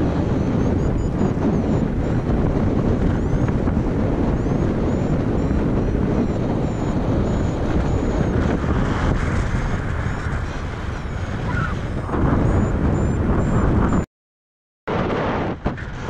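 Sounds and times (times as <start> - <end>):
wind buffeting microphone: 0.0 - 14.1, 14.9 - 16.0.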